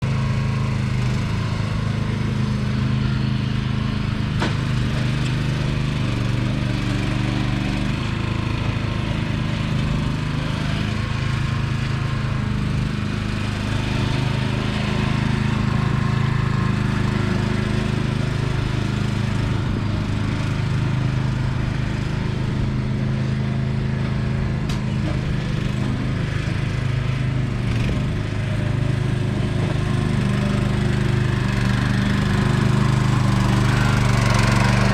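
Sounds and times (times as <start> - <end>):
garden tractor engine running: 0.0 - 34.9.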